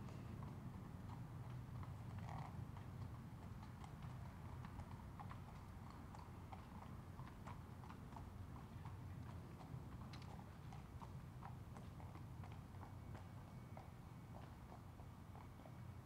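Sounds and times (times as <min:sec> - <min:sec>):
horse hooves clip-clopping on concrete: 0:00.1 - 0:15.9.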